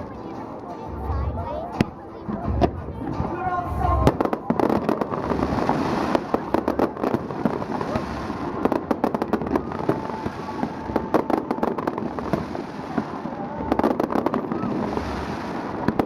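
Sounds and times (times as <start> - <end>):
background voices: 0.0 - 16.0
fireworks bangs and crackles: 0.0 - 16.0.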